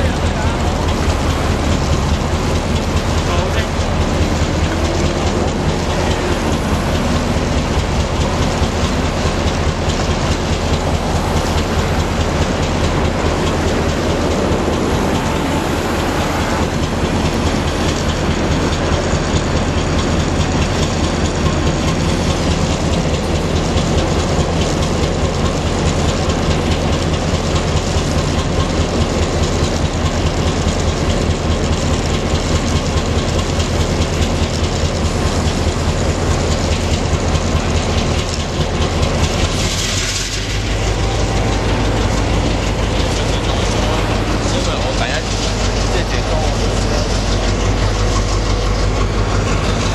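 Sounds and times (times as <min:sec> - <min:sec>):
diesel locomotive engines droning: 0:00.0 - 0:49.9
wheels clattering over rail joints: 0:00.0 - 0:49.9.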